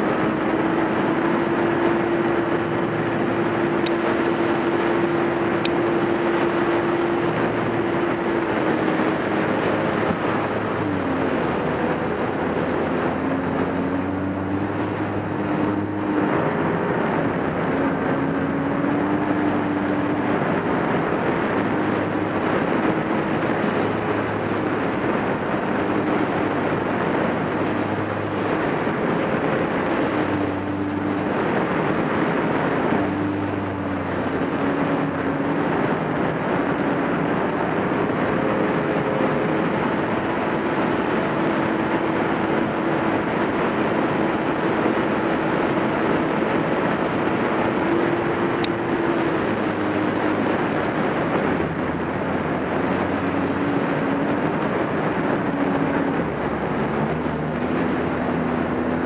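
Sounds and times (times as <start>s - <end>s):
jet ski engine running hard: 0.0s - 59.0s
wind on microphone: 0.0s - 59.0s.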